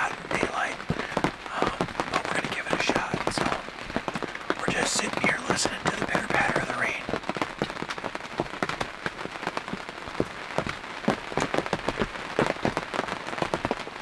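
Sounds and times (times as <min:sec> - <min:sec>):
rain pitter-pattering: 0:00.0 - 0:14.0.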